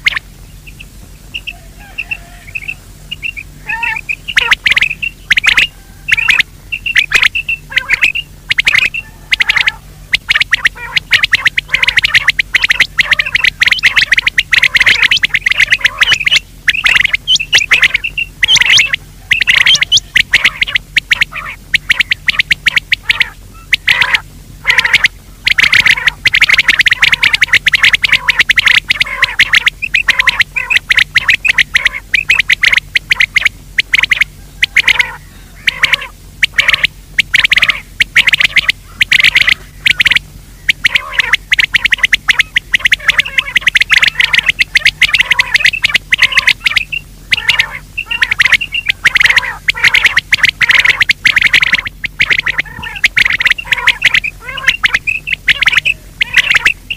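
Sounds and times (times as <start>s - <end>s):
harsh game bird calls: 0.0s - 56.9s.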